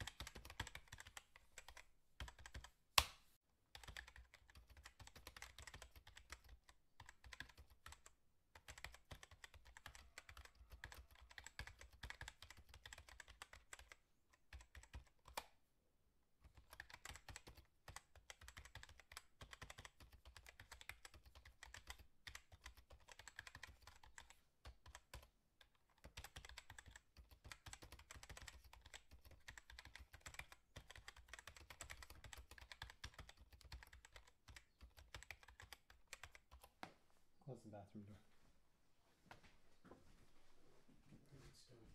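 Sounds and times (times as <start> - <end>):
faint rapid clicking and tapping: 0.0 - 2.7, 3.7 - 15.5, 16.4 - 37.0.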